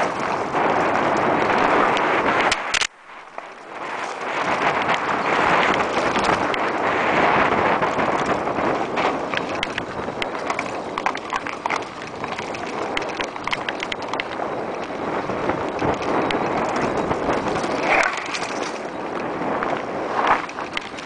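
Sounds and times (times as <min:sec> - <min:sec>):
bike clicking and rattling: 0:00.0 - 0:21.0
wind and tyres rushing: 0:00.0 - 0:21.0.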